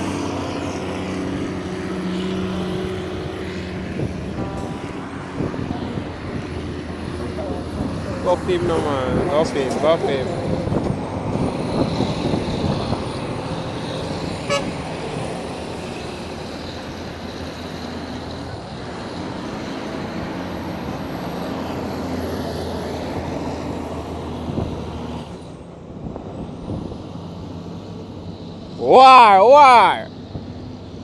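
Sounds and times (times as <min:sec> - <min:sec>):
diesel truck engine running: 0:00.0 - 0:28.6.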